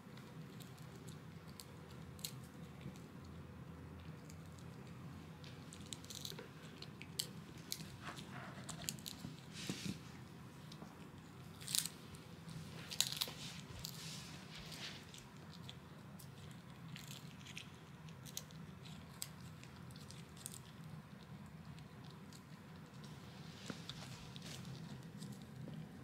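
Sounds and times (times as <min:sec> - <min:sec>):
dog crunching chew treat: 0:00.1 - 0:03.4, 0:04.0 - 0:09.5, 0:10.6 - 0:14.0, 0:14.6 - 0:23.2, 0:23.8 - 0:26.0.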